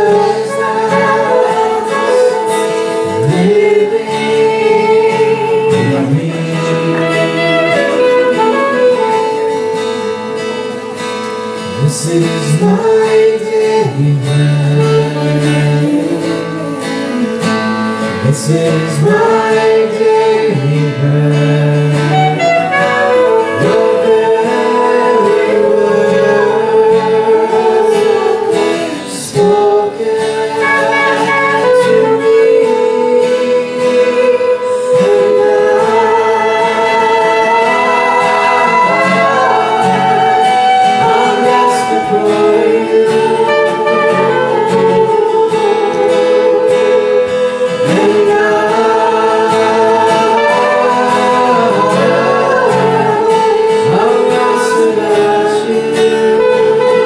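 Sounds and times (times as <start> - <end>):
woman singing into a microphone: 0.0 - 10.8, 11.6 - 57.0
acoustic guitar: 0.0 - 57.0
backing vocals: 0.0 - 57.0.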